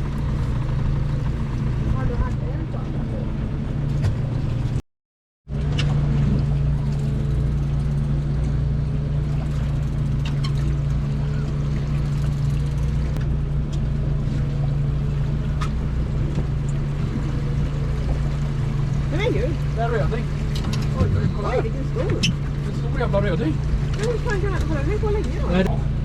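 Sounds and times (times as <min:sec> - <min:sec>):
boat motor humming: 0:00.0 - 0:04.8, 0:05.5 - 0:26.0.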